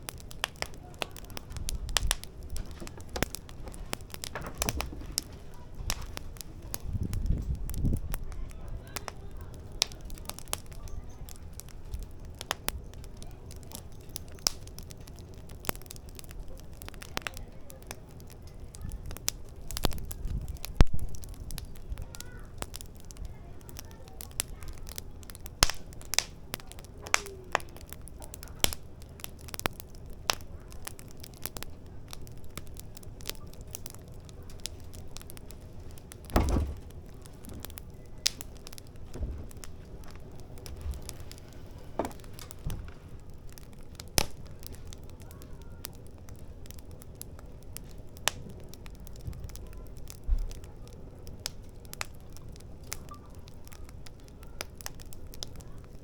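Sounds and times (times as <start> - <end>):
firewood crackling and popping: 0.0 - 56.0.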